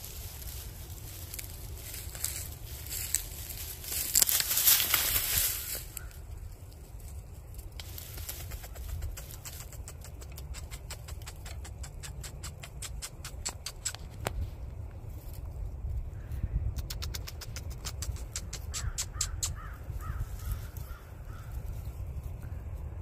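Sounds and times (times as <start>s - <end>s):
armadillo scratching in leaf litter: 0.0s - 16.0s, 17.6s - 22.8s
rustle through dry leaves: 0.0s - 23.0s.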